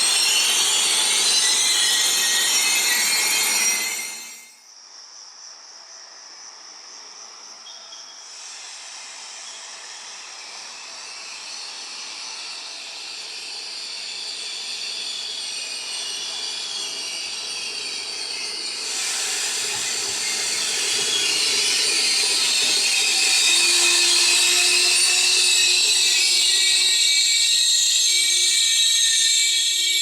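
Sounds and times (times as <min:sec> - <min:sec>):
train wheels squealing and hissing: 0:00.0 - 0:04.7, 0:06.9 - 0:30.0.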